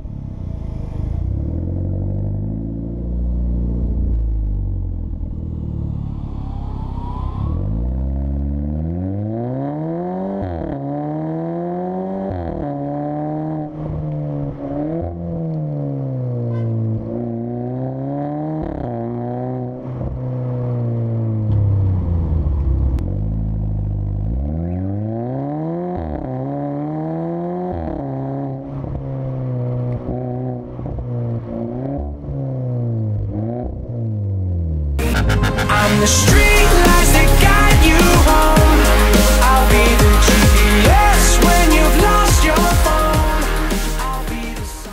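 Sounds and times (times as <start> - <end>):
car exhaust accelerating through gears: 0.0 - 44.9.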